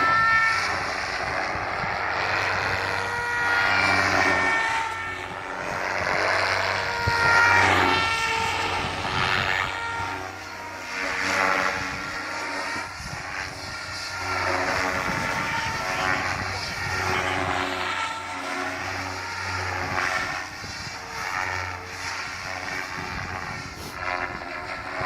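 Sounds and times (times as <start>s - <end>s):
helicopter rotor noise: 0.0s - 25.0s
rc helicopter motor whine: 0.0s - 25.0s.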